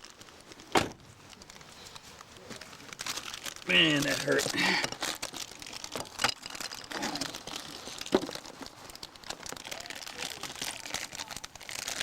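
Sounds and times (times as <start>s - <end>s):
crinkling and rustling handling: 0.0s - 12.0s.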